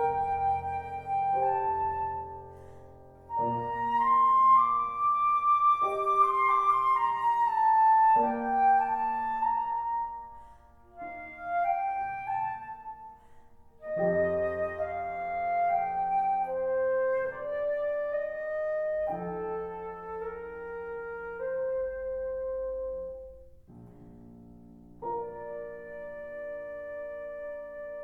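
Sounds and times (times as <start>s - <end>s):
flute melody: 0.0s - 23.5s, 25.0s - 28.0s
piano chords: 0.0s - 28.0s.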